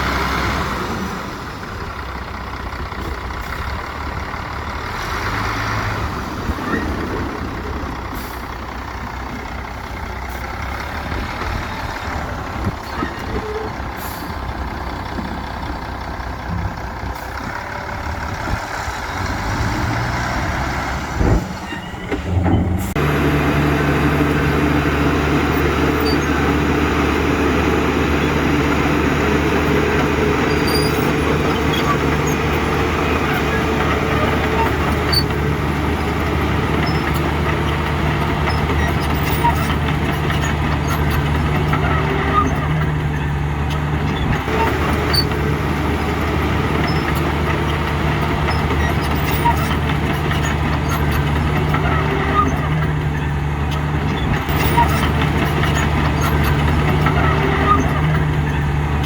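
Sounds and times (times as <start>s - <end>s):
heavy diesel engines working: 0.0s - 59.0s.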